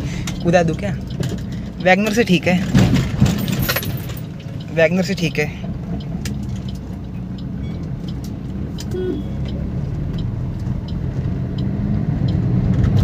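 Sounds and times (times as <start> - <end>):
diesel car engine running: 0.0 - 13.0
road noise: 0.0 - 13.0.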